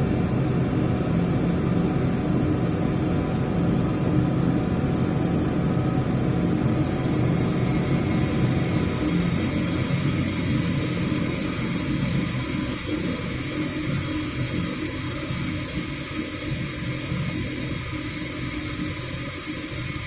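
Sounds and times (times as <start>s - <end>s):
faint hum: 0.0s - 20.0s
steam boiler roaring: 0.0s - 20.0s.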